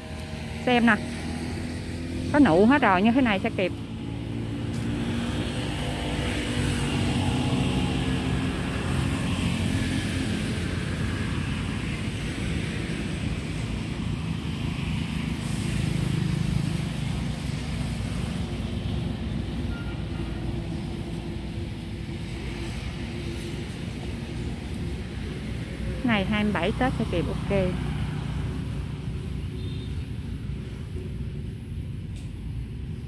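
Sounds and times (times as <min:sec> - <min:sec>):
low traffic rumble: 0:00.0 - 0:33.0
vehicles passing: 0:00.0 - 0:33.0.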